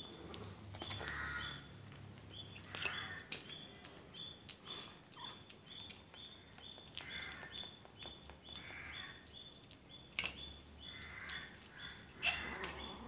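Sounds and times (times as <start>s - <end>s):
kitten chewing food: 0.0s - 13.0s.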